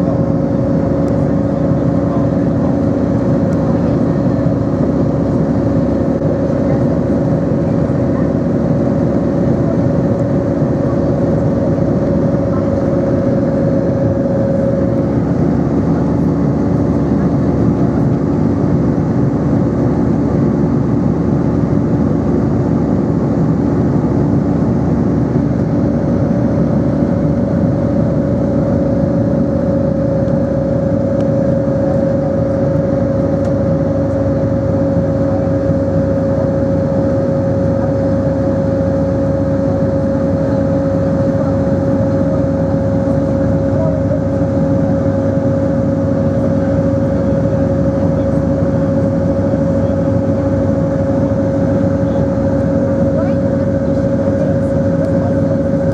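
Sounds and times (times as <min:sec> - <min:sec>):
droning hum: 0:00.0 - 0:55.9
jet engine roar in cabin: 0:00.0 - 0:55.9.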